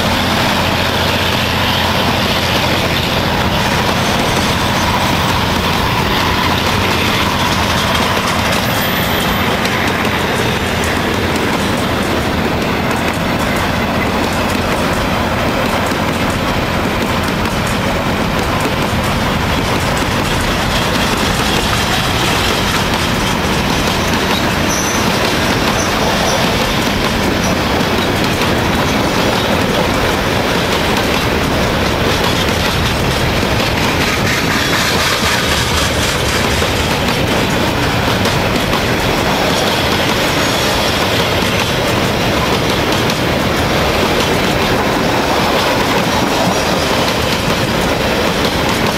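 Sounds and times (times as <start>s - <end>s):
train wheels rumbling on rails: 0.0s - 48.9s
short knocks of train wheels: 0.2s - 48.9s.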